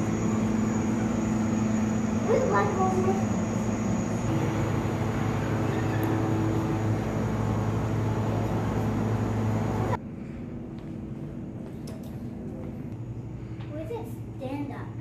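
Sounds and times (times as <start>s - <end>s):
mechanical hum with rushing noise: 0.0s - 15.0s.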